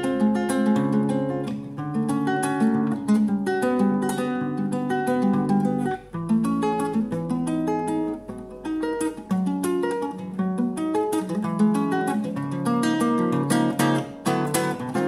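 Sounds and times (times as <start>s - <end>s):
classical guitar fingerstyle: 0.0s - 15.0s.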